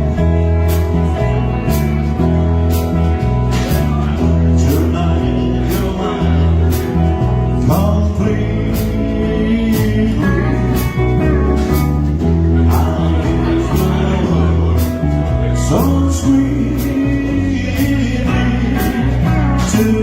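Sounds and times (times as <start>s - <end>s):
rock and roll band playing: 0.0s - 20.0s.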